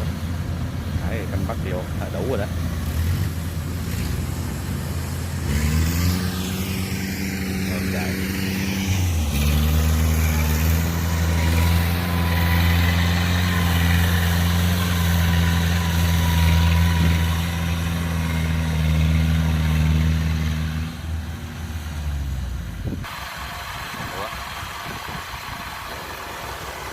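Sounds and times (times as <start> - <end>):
combine harvester diesel engine: 0.0 - 26.9.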